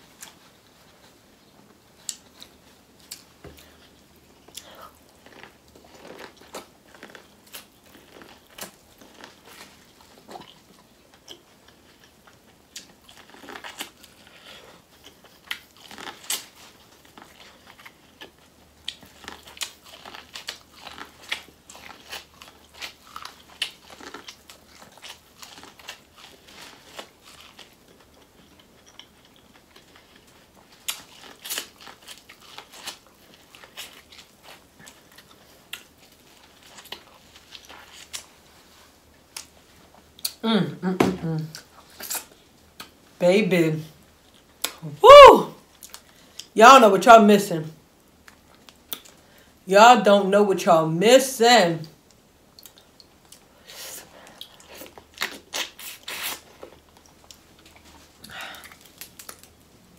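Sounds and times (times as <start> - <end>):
person chewing corn: 0.0 - 40.4, 41.4 - 43.0, 44.0 - 44.9, 45.6 - 46.6, 48.1 - 49.6, 51.9 - 59.9.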